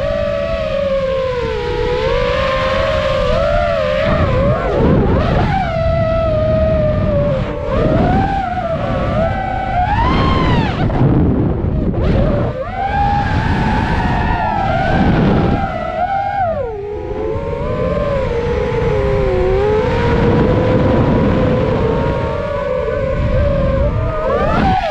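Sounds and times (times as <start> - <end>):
quadcopter motors whining: 0.0 - 24.9.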